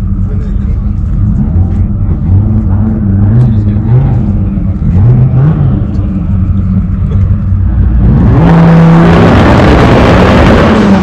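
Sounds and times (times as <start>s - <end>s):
car engine revving hard: 1.2s - 11.0s.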